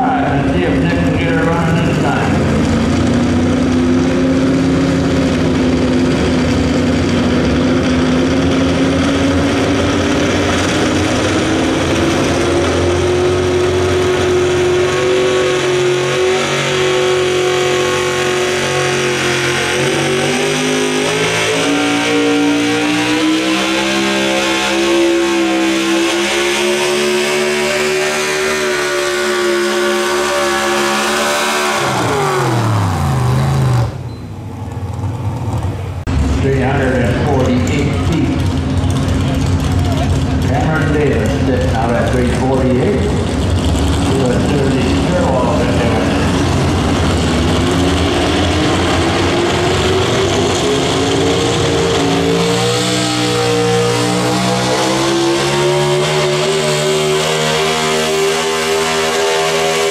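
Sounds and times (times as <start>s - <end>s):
truck engine at high revs: 0.0s - 59.9s.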